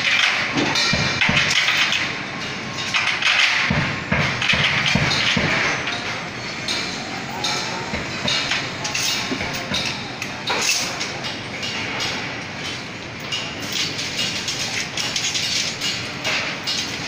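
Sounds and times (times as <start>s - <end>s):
construction site din: 0.0s - 17.0s
metallic clanks and knocks: 0.0s - 17.0s.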